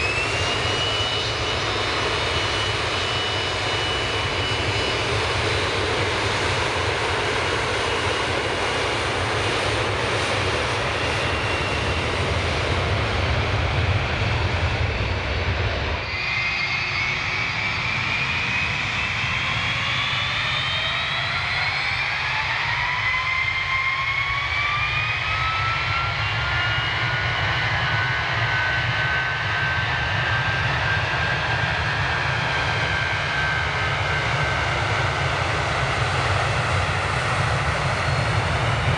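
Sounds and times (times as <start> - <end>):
jet engines roaring: 0.0 - 38.9
turbofans spooling up whine: 0.0 - 38.9.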